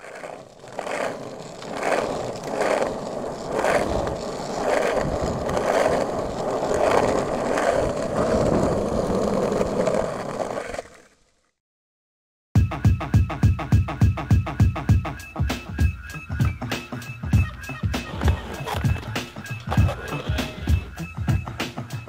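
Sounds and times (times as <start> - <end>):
skateboard wheels rolling on asphalt: 0.0 - 11.6, 15.8 - 22.0.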